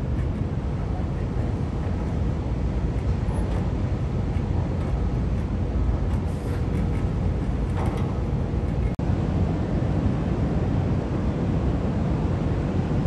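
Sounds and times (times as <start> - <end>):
low rumble of ship machinery: 0.0 - 13.0
wind: 0.0 - 13.0.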